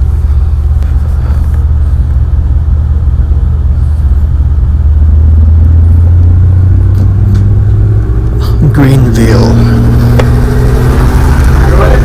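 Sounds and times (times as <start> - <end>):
helicopter engine and rotor rumble: 0.0 - 12.0.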